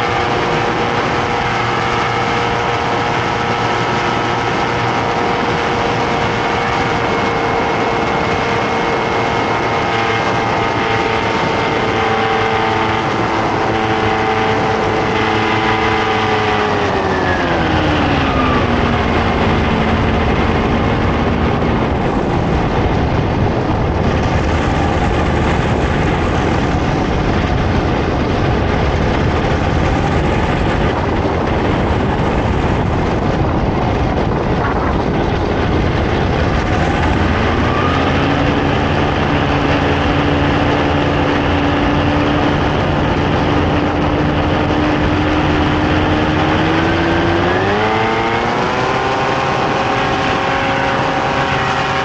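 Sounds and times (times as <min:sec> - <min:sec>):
paramotor engine and propeller: 0:00.0 - 0:52.0
rush of wind: 0:00.0 - 0:52.0.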